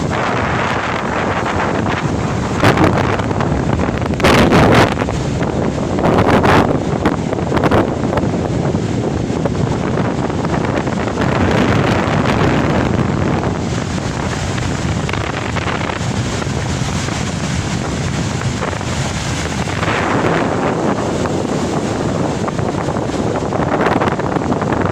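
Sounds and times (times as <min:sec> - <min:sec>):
rough sea surf: 0:00.0 - 0:24.9
wind buffeting microphone: 0:00.0 - 0:24.9.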